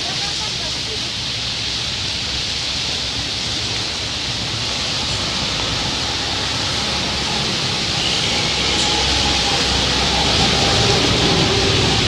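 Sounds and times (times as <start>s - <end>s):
bus passing: 0.0s - 12.0s
heavy rain hissing: 0.0s - 12.0s
traffic on wet road: 0.0s - 12.0s.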